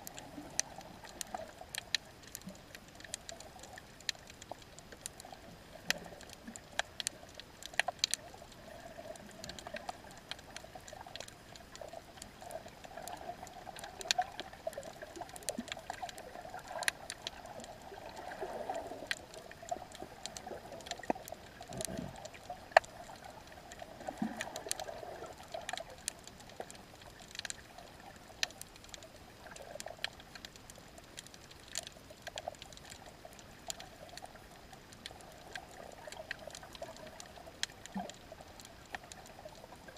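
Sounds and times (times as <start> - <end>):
faint wash of water: 0.0 - 39.9.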